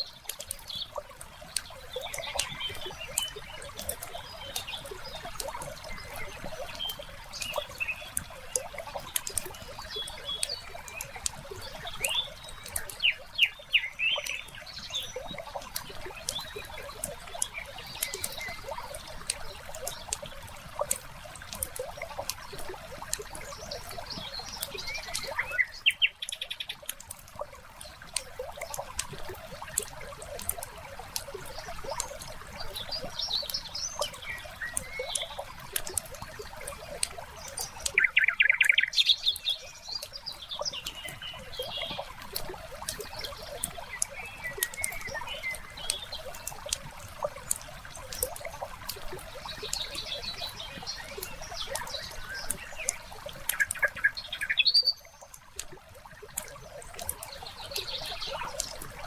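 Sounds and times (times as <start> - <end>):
small birds chirping: 0.0 - 59.0
water trickling: 0.0 - 59.0.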